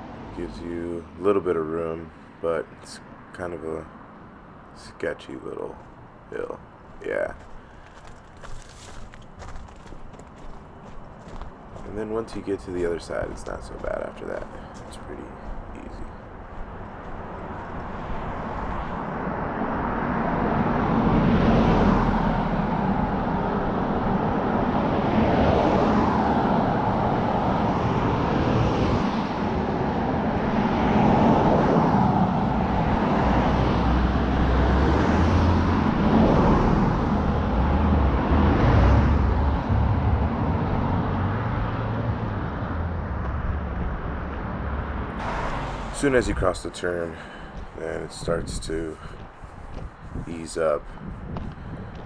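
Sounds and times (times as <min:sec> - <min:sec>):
cars passing by: 0:00.0 - 0:52.0.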